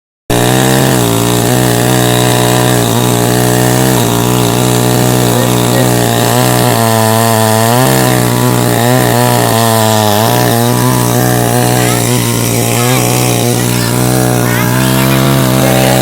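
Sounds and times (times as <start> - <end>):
chainsaw cutting through tree: 0.3 - 16.0.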